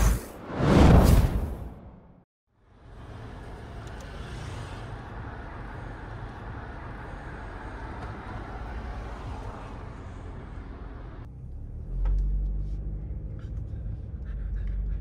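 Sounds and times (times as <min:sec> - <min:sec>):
car cabin engine and road rumble: 0:02.8 - 0:15.0.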